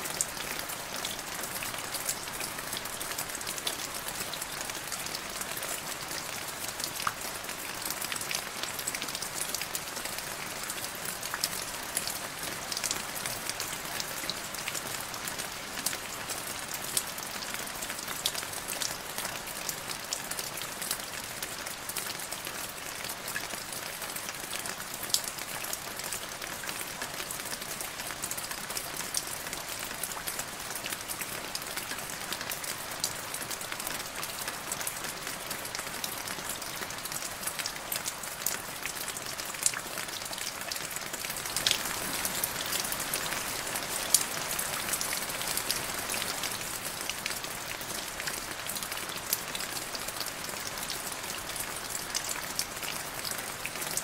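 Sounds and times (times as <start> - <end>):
rain falling into a puddle: 0.1 - 54.0.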